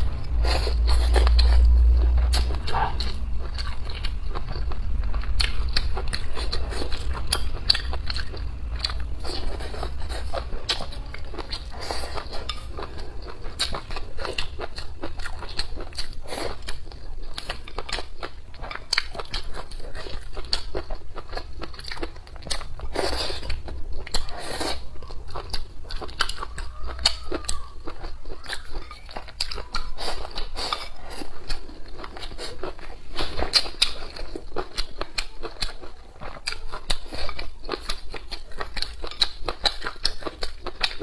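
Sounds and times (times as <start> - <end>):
person chewing with wet clicks: 0.0 - 41.0.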